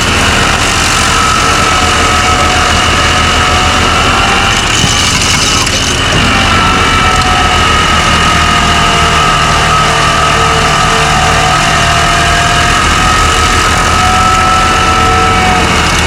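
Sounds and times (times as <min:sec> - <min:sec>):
steady whine: 0:00.0 - 0:16.0
stump grinder engine: 0:00.0 - 0:16.0.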